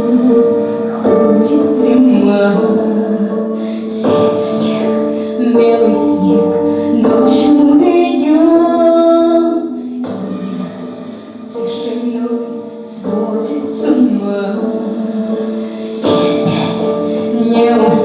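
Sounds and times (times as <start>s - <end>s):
woman singing: 0.0s - 18.0s.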